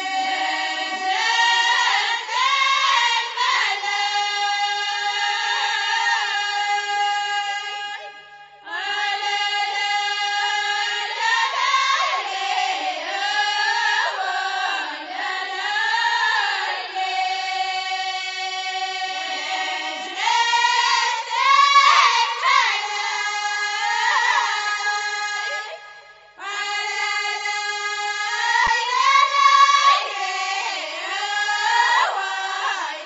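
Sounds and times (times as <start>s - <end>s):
group singing: 0.0s - 33.0s.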